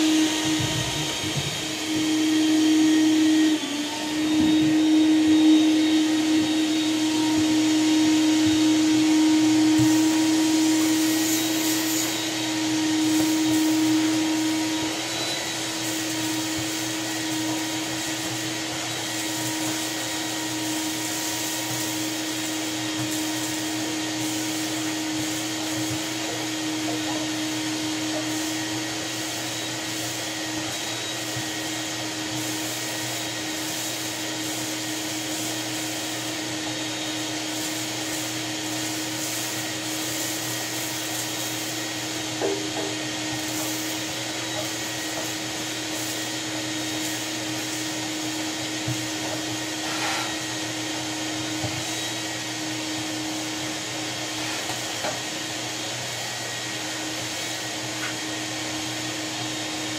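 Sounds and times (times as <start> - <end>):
shop vac motor whine: 0.0 - 59.9.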